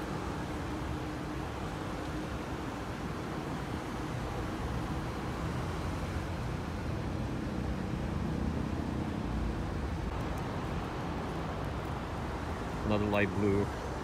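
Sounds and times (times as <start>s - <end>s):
traffic engine drone: 0.0s - 14.0s.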